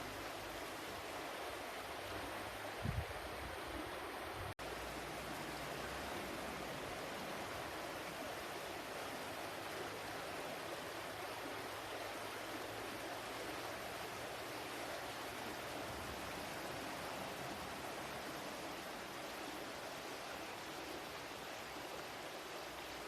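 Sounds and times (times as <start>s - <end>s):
water flowing: 0.0s - 23.0s.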